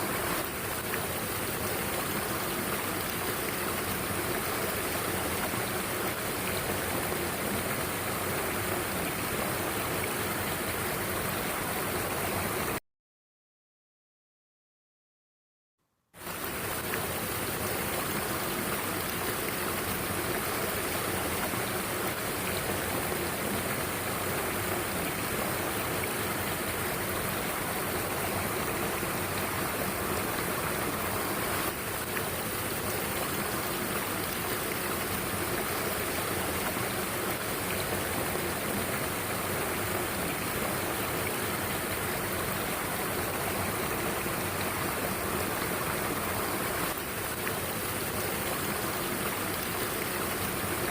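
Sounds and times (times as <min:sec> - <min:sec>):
mountain stream water flowing: 0:00.0 - 0:12.8, 0:16.2 - 0:50.9.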